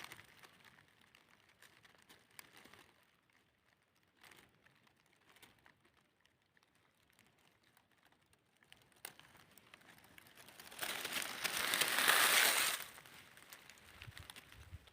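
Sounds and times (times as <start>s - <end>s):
crinkling rustle: 0.0s - 14.9s
faint crackles: 0.0s - 14.9s.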